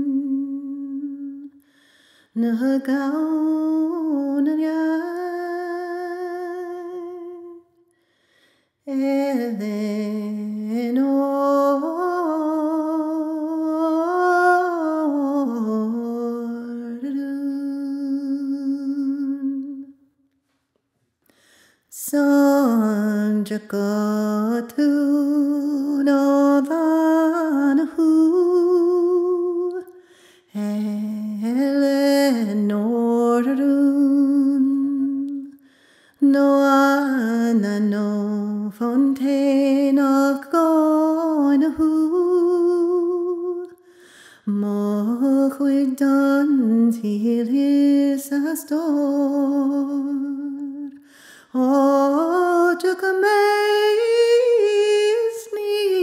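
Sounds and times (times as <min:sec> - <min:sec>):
woman singing unaccompanied: 0:02.4 - 0:07.6, 0:08.9 - 0:19.9, 0:21.9 - 0:35.5, 0:36.2 - 0:43.8, 0:44.5 - 0:56.0.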